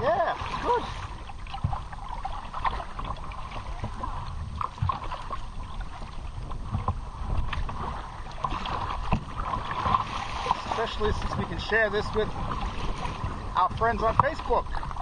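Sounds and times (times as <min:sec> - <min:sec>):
water splashing against kayak hull: 0:00.0 - 0:15.0.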